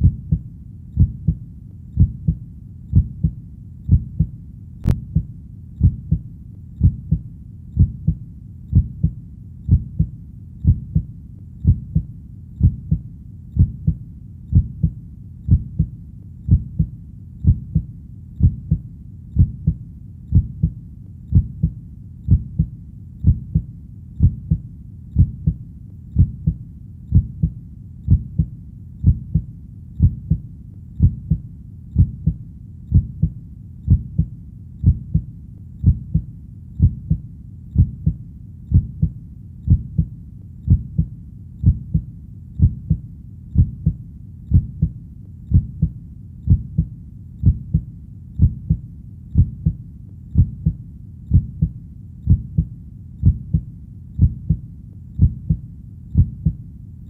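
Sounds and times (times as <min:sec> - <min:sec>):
heartbeat double thump: 0:00.0 - 0:00.4, 0:01.0 - 0:01.4, 0:02.0 - 0:03.3, 0:03.9 - 0:06.2, 0:06.8 - 0:07.2, 0:07.8 - 0:13.0, 0:13.6 - 0:15.9, 0:16.5 - 0:18.8, 0:19.4 - 0:24.6, 0:25.2 - 0:25.6, 0:26.2 - 0:30.4, 0:31.0 - 0:31.4, 0:32.0 - 0:37.2, 0:37.8 - 0:40.1, 0:40.7 - 0:43.0, 0:43.6 - 0:45.9, 0:46.5 - 0:48.8, 0:49.4 - 0:49.8, 0:50.4 - 0:54.6, 0:55.2 - 0:55.6, 0:56.2 - 0:56.6.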